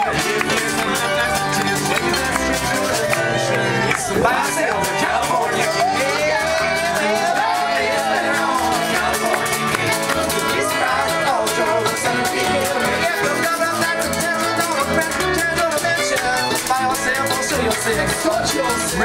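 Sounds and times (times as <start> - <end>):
acoustic guitar: 0.0 - 19.0
banjo: 0.0 - 19.0
double bass pulse: 0.0 - 19.0.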